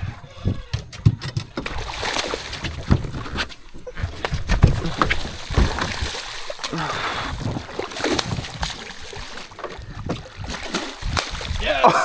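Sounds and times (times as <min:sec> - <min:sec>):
knocks and thumps on boat: 0:00.3 - 0:11.8
water sloshing: 0:00.4 - 0:11.8.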